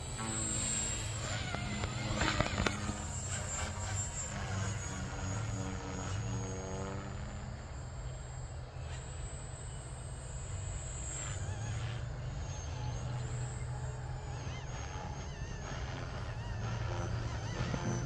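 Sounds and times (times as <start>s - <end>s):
model airplane motor droning: 0.0s - 18.0s.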